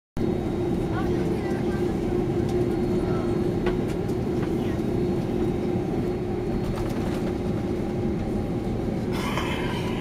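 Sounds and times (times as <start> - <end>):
airplane cabin rumble: 0.2 - 10.0
constant hum: 0.2 - 10.0.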